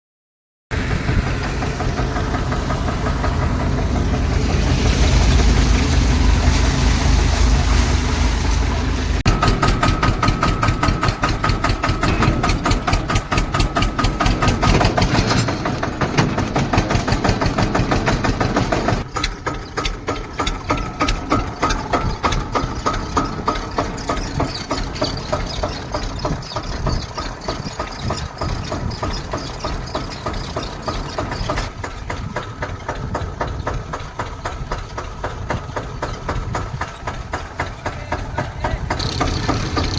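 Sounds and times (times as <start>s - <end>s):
diesel tractor engine chugging: 0.7s - 39.9s.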